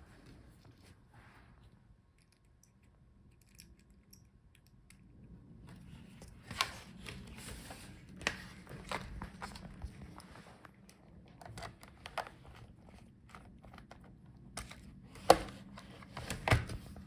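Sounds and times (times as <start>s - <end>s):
small clicks and handling noise: 2.1s - 17.0s.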